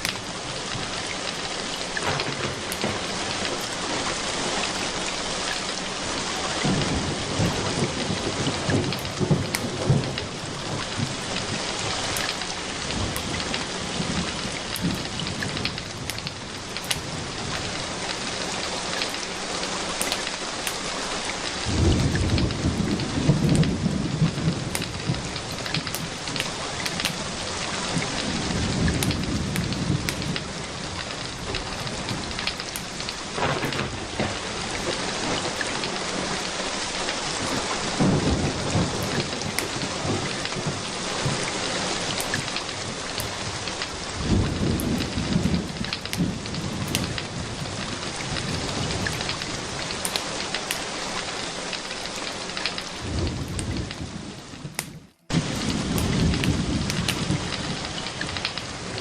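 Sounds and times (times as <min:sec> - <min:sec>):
thunder rolling: 0:00.0 - 0:05.4, 0:06.0 - 0:19.2, 0:21.6 - 0:50.7, 0:52.6 - 0:59.0
rain falling: 0:00.0 - 0:59.0.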